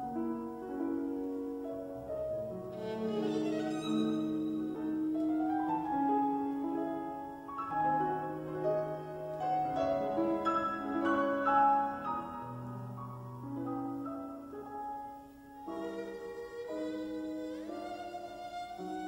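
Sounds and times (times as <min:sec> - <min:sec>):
bowed strings melody: 0:00.0 - 0:14.0, 0:15.6 - 0:19.0
piano chords: 0:00.0 - 0:19.0.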